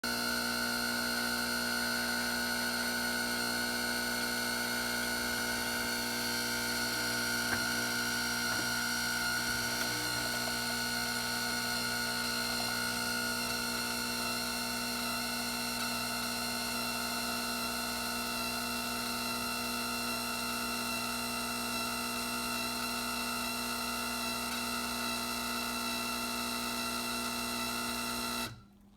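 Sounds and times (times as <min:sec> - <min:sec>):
espresso machine whining: 0:00.1 - 0:28.6.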